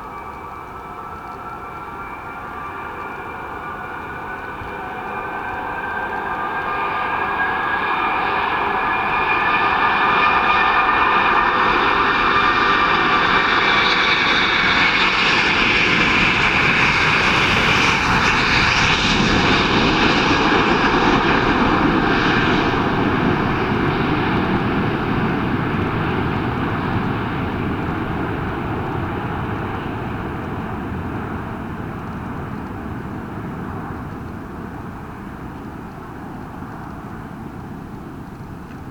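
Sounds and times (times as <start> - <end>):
jet airliner taking off: 0.0 - 38.9.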